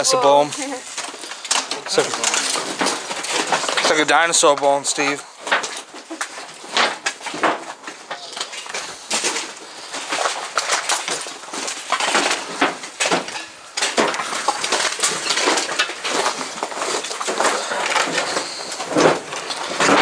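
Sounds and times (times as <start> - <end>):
footsteps crunching over rubble: 0.0 - 20.0.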